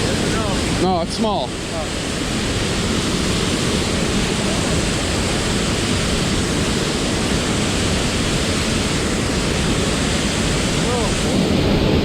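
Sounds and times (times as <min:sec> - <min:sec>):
fast-running river water: 0:00.0 - 0:12.0
waterfall rushing: 0:00.0 - 0:12.0.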